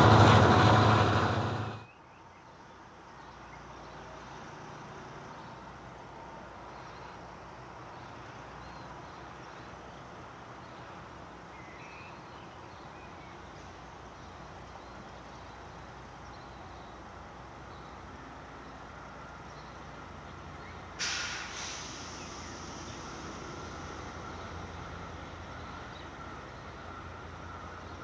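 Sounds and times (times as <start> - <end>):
distant diesel locomotive rumble: 0.0 - 28.0.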